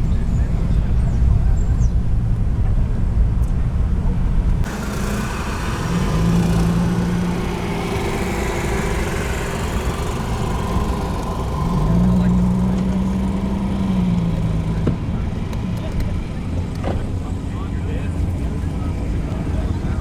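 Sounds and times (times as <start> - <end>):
car engine drone: 0.0 - 20.0
road noise rumble: 0.0 - 20.0.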